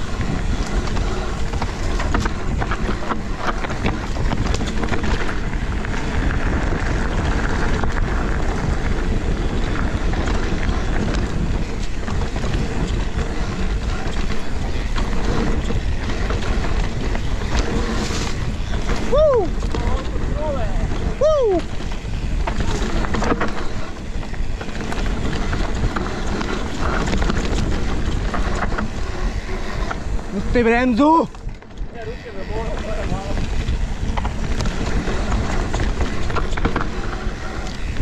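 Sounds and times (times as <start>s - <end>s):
bike clattering over bumps: 0.0s - 38.0s
tyres rumbling on dirt: 0.0s - 38.0s
wind on microphone: 0.0s - 38.0s.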